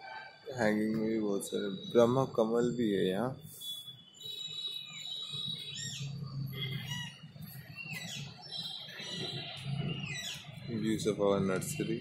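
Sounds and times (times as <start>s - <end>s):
birds chirping: 0.6s - 12.0s.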